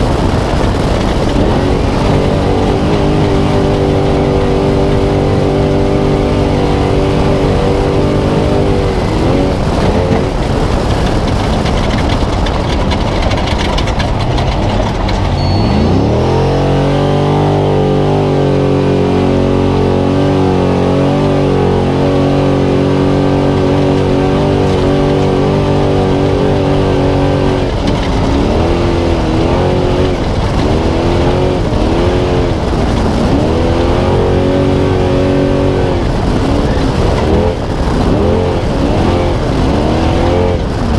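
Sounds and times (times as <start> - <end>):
road and wind noise: 0.0 - 40.9
truck engine under hard throttle: 0.0 - 40.9.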